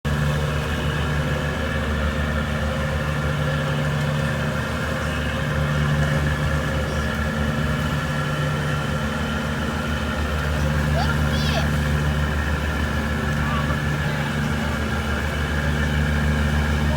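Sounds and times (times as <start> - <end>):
boat engine running: 0.0 - 16.9.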